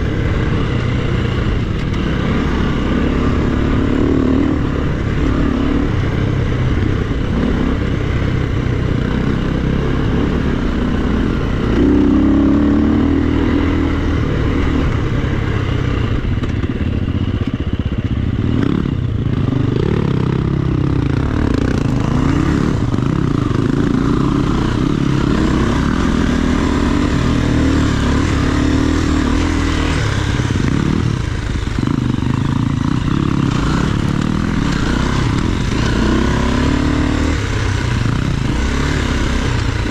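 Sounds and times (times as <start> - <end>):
dirt bike engine revving: 0.0 - 16.8, 18.4 - 39.9.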